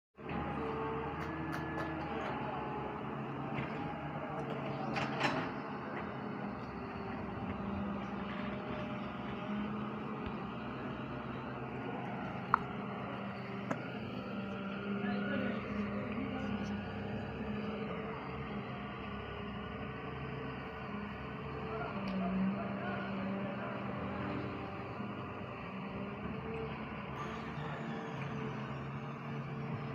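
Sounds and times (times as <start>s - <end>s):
excavator diesel engine running: 0.2s - 29.9s.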